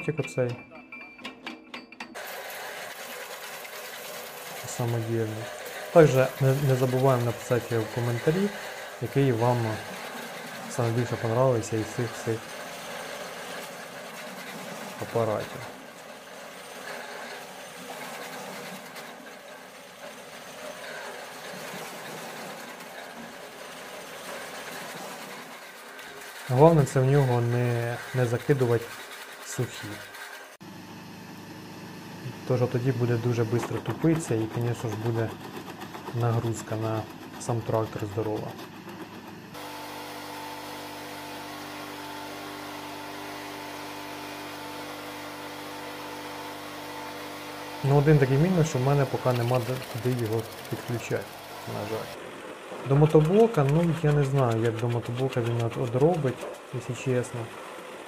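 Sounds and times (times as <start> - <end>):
wood chipper chipping branches: 2.2 - 58.0.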